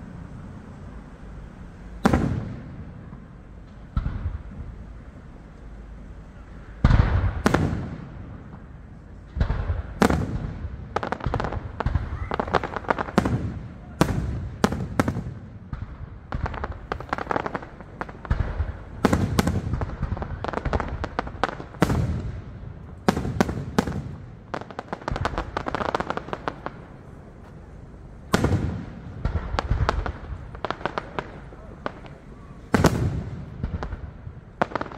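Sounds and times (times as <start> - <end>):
fireworks bangs: 0.0 - 34.9
fireworks crackling: 0.0 - 34.9.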